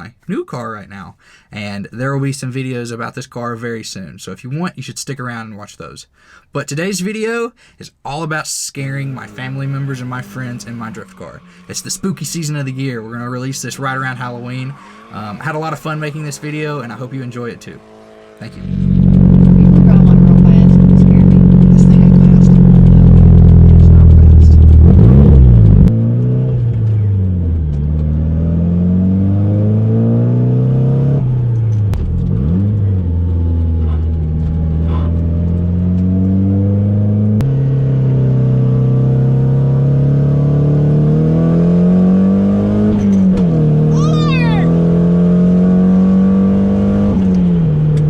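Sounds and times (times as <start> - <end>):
car engine revving: 8.8 - 48.0.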